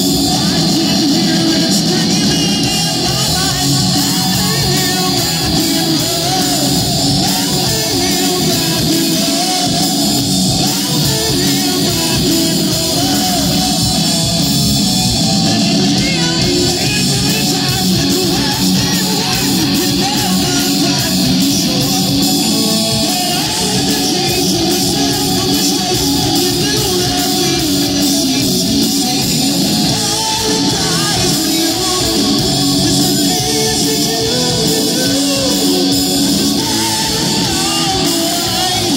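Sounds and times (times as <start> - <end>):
male singer: 0.0 - 14.4, 15.2 - 38.9
electric guitars: 0.0 - 38.9
live rock band playing: 0.0 - 38.9.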